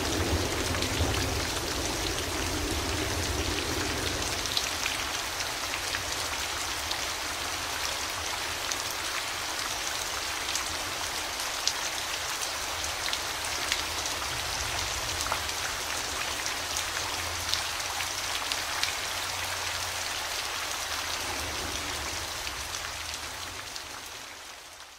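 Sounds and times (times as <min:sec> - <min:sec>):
steady rainfall: 0:00.0 - 0:24.9.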